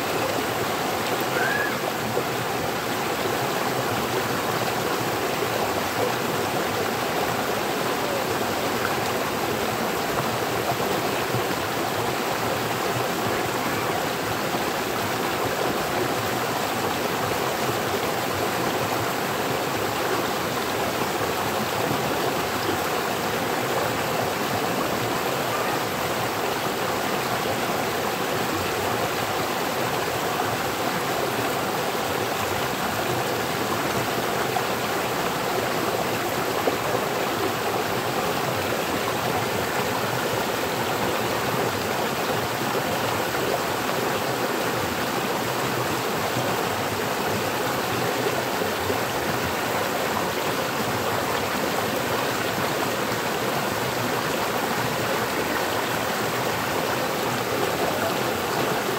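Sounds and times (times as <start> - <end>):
stream water rushing and splashing: 0.0 - 58.9.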